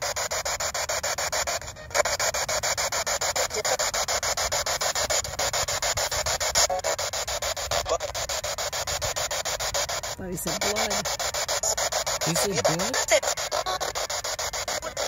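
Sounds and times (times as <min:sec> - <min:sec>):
choppy radio static hiss: 0:00.0 - 0:15.0.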